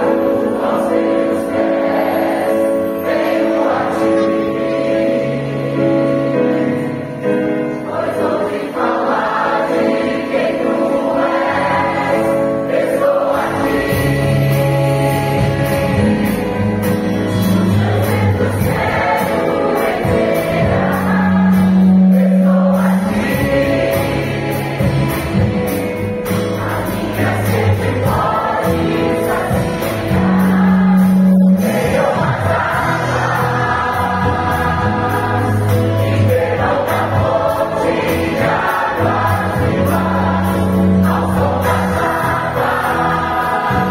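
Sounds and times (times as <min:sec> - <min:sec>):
choir singing in harmony: 0:00.0 - 0:43.9
keyboard accompaniment: 0:00.0 - 0:43.9.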